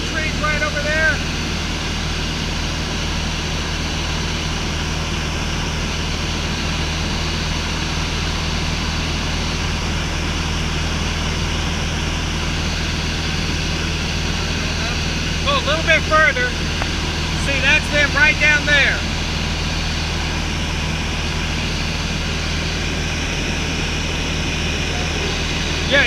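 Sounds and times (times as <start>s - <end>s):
airplane engine droning: 0.0s - 26.0s.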